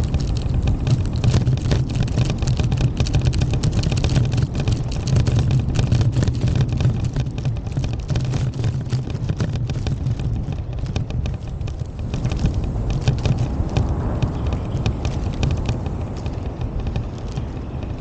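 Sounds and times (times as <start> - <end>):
low rumble: 0.0 - 18.0
rapid crackle of clicks: 0.0 - 18.0.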